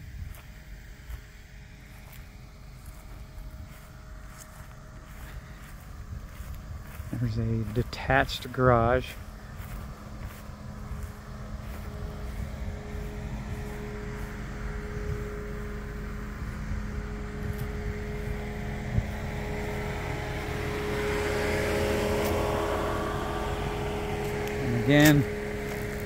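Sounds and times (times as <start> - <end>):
low rumble: 0.0 - 26.0
motor hum: 0.0 - 26.0.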